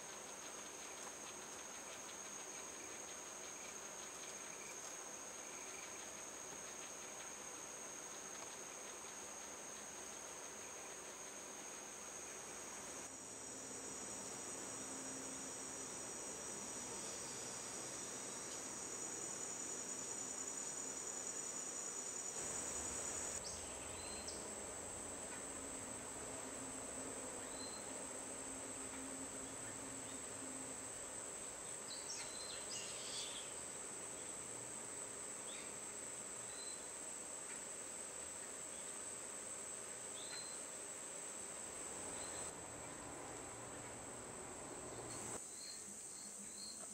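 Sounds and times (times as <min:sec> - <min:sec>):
faint insect chirps: 0:00.0 - 0:46.9
insect chorus drone: 0:00.0 - 0:46.9.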